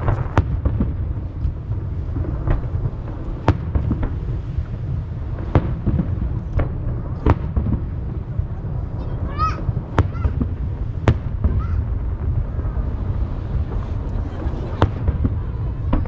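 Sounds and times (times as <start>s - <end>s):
firework bangs: 0.0s - 16.0s
rumble of echoes: 0.0s - 16.0s.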